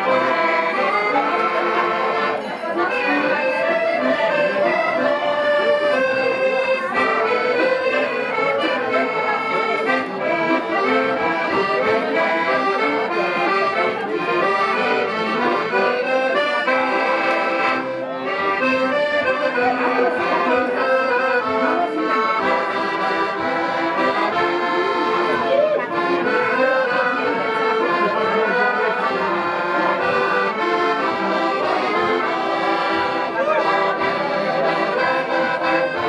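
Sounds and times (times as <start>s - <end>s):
accordions playing folk tune: 0.0s - 36.0s.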